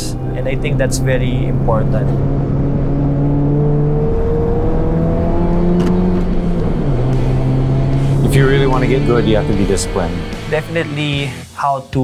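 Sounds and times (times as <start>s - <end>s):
race car engine accelerating: 0.0s - 11.4s.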